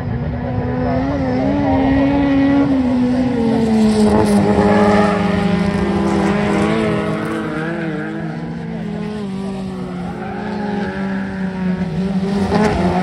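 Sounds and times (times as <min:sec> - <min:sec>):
racing car engines at high revs: 0:00.0 - 0:13.0.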